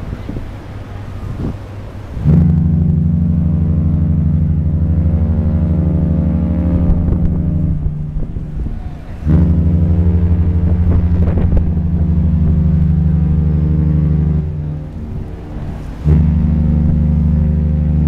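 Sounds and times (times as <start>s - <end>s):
ship horn blasts: 0.0s - 18.0s.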